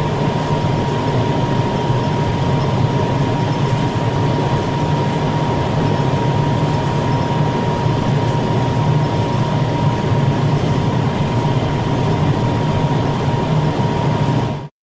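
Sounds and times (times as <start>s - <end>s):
ventilation unit humming: 0.0s - 14.7s.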